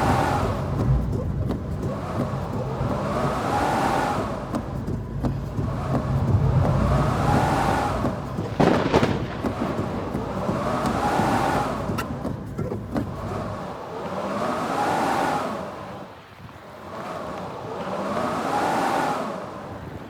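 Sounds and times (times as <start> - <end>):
strong wind gusting: 0.0 - 20.0.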